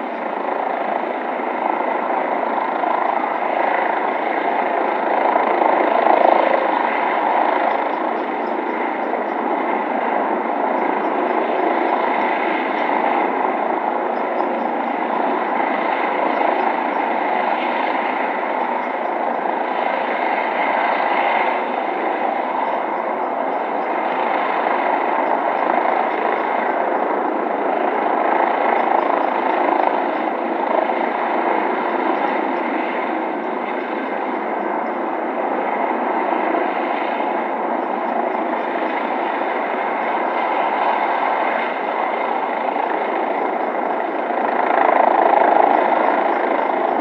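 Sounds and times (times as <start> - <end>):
helicopter flying over: 0.0 - 47.0.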